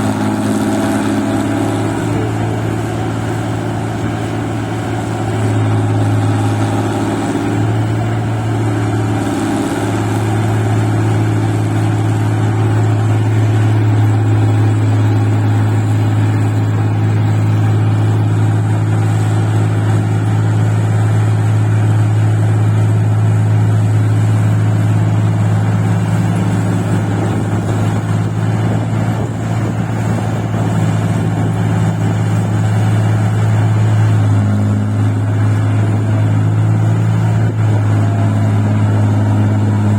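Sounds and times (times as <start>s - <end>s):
machine engine humming under load: 0.0s - 39.9s.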